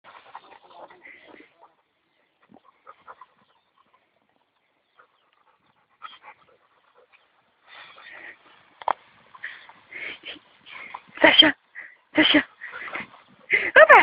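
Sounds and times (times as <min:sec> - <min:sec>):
dog panting: 0:00.1 - 0:14.0.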